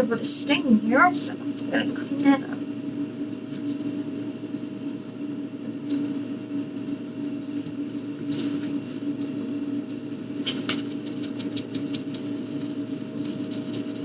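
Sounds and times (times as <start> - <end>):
scratchy scrubbing strokes: 0.0 - 5.2, 5.8 - 14.0
steady low hum: 0.0 - 14.0.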